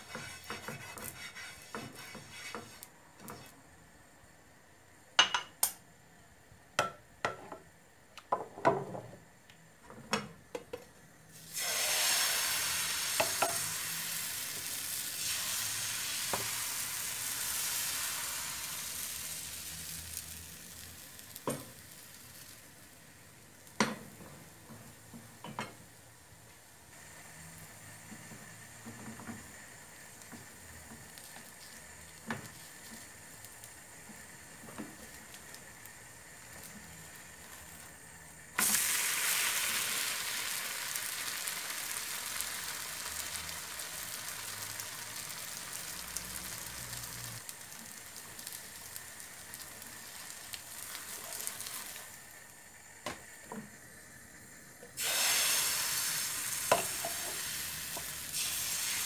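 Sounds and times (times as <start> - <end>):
batter sizzling in a frying pan: 0.0 - 4.2, 11.2 - 59.0.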